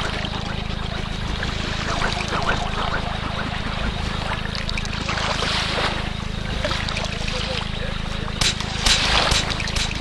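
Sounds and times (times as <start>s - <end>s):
low drone: 0.0s - 9.3s.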